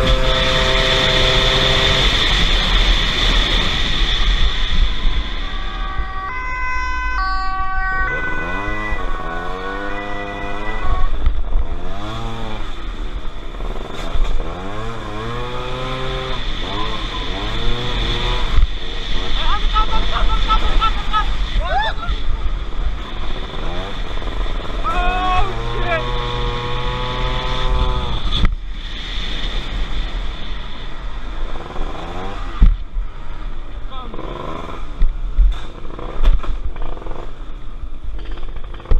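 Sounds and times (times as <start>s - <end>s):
motorcycle engine revving: 0.0s - 21.6s, 22.2s - 38.9s
wind rushing over microphone: 0.0s - 36.8s.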